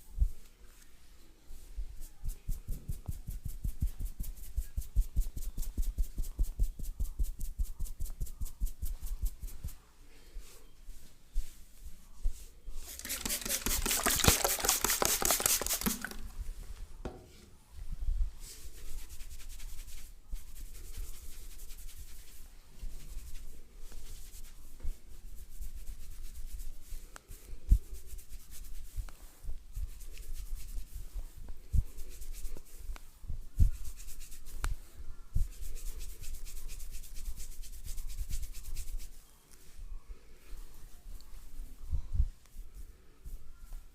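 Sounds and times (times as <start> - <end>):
rubbing and scratching hair: 0.0 - 16.9, 17.8 - 43.9.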